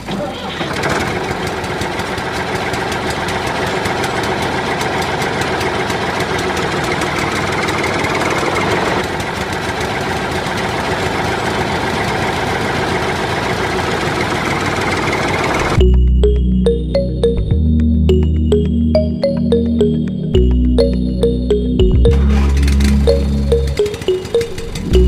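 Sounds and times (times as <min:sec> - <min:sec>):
engine running with knocking beat: 0:00.6 - 0:16.5, 0:20.4 - 0:25.0.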